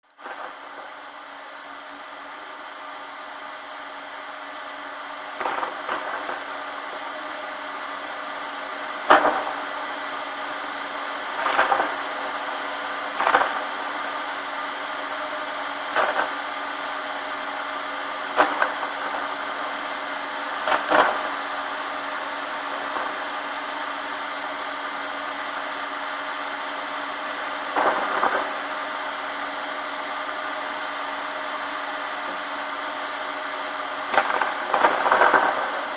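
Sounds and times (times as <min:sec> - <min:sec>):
rain hissing: 0:04.8 - 0:35.9.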